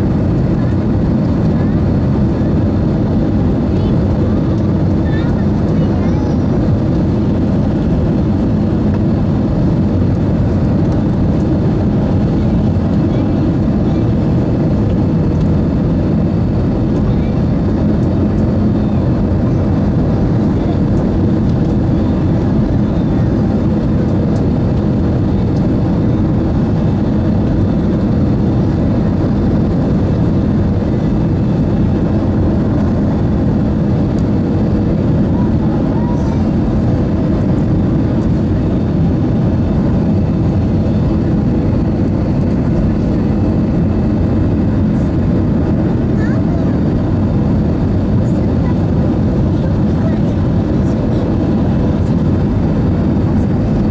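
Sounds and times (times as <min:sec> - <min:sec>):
aircraft cabin drone: 0:00.0 - 0:53.9.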